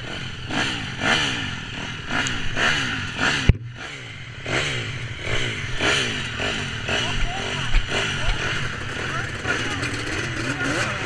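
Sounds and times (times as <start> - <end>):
dirt bike and quad engines revving: 0.0 - 11.0.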